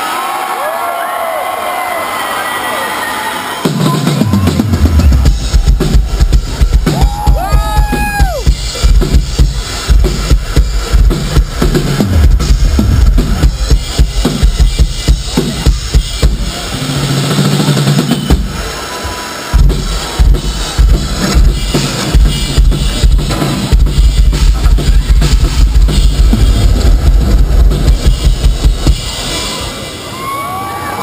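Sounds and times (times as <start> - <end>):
rock drum solo: 3.6 - 30.1.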